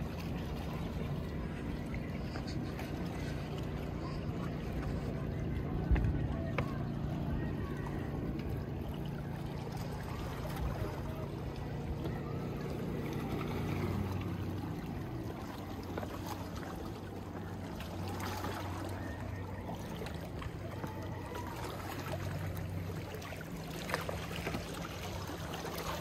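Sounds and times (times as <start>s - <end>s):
boat engine humming: 0.0s - 26.0s
water splashing: 0.0s - 26.0s.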